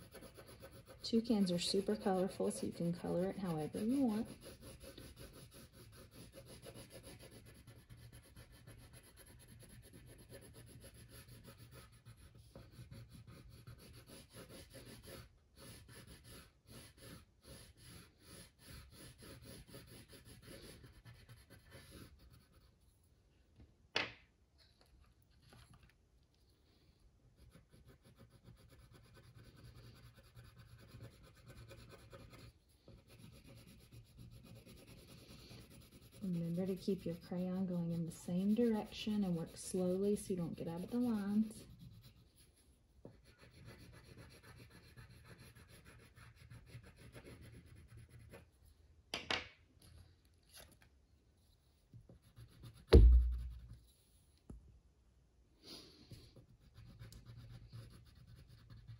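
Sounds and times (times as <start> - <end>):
crayon scratching on paper: 0.0 - 22.9, 27.4 - 48.6, 52.1 - 53.8, 56.1 - 58.9.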